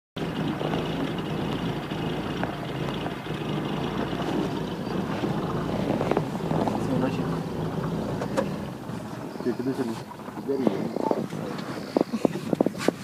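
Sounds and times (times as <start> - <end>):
vehicle engine humming: 0.2 - 13.0.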